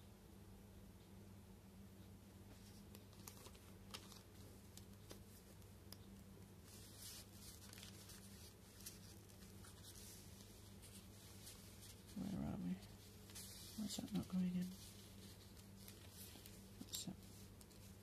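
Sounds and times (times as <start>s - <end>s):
low steady hum: 0.0s - 18.0s
paper rustling: 2.5s - 5.7s, 6.5s - 18.0s.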